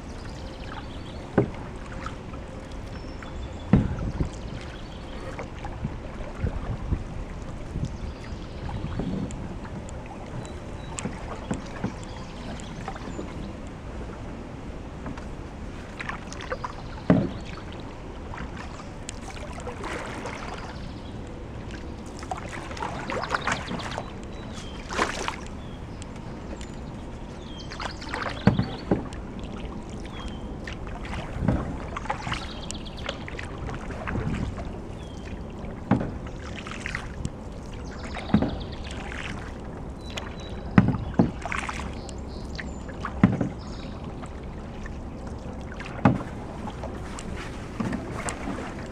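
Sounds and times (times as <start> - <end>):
paddle splashing in water: 0.0 - 14.3, 14.9 - 48.9.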